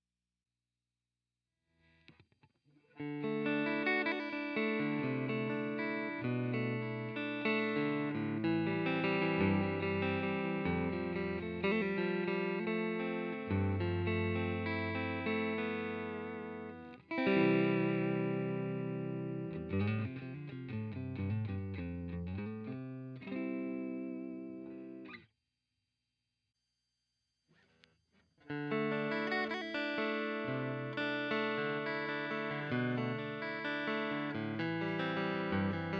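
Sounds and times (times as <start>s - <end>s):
electric guitar chords and notes: 2.9s - 25.2s, 28.4s - 35.9s.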